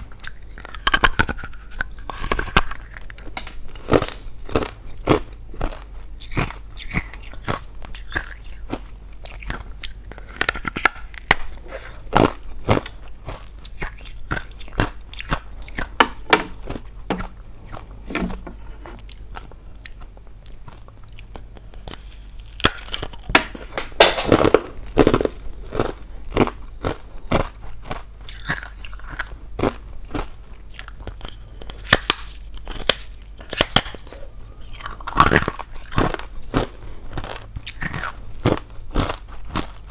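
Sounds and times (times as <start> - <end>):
ice crunching while chewed: 0.2 - 39.9.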